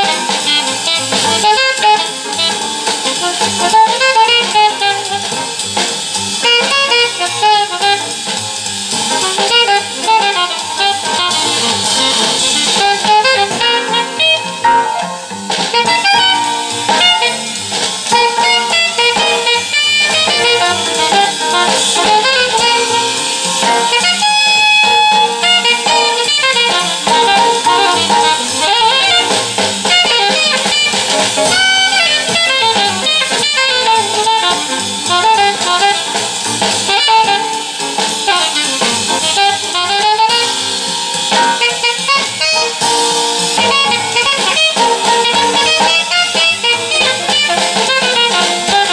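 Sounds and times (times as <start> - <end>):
jazz through a loudspeaker: 0.0 - 48.9.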